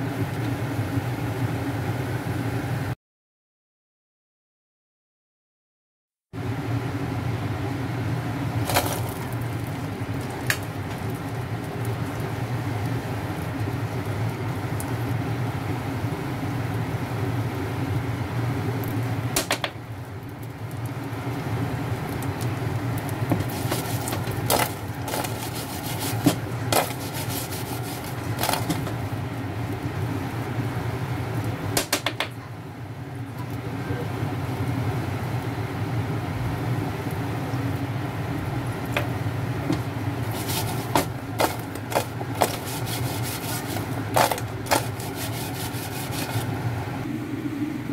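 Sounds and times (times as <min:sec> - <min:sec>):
induction hob hum: 0:00.0 - 0:03.0, 0:06.4 - 0:47.9
chicken wings sizzling in pan: 0:06.4 - 0:47.0.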